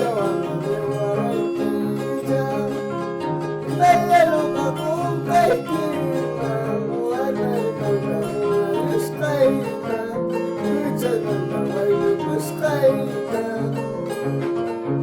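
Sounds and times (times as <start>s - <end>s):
harp plucking folk tune: 0.0s - 15.0s.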